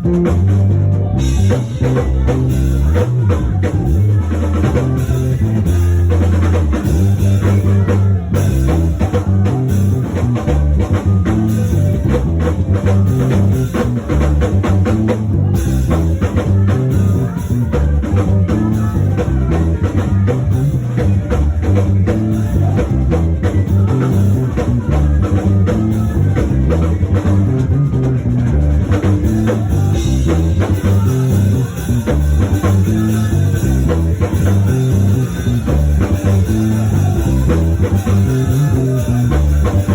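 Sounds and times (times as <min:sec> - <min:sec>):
instrumental band music: 0:00.0 - 0:39.9
prominent bass line: 0:00.0 - 0:39.9.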